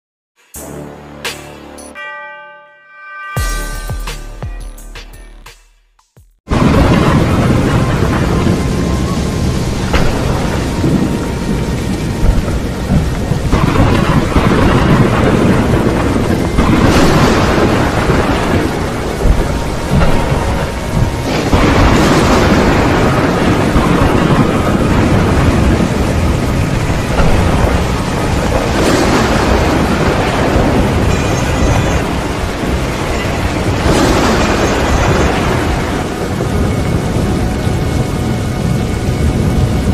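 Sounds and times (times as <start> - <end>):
heavy rain: 6.5 - 39.9
thunder rolling: 6.5 - 39.9.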